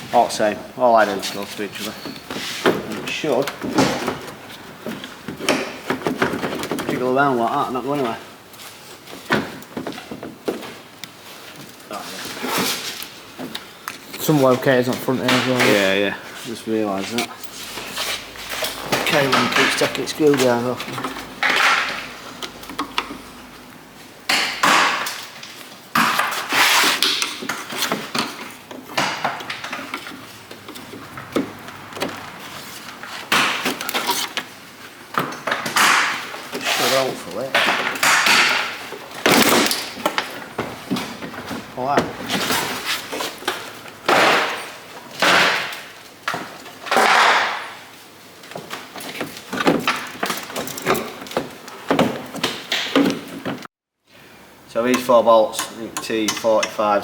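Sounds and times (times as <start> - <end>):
plastic parts clattering and scraping: 1.2 - 8.1, 9.0 - 23.6, 24.4 - 34.6, 35.2 - 47.5, 48.5 - 53.7.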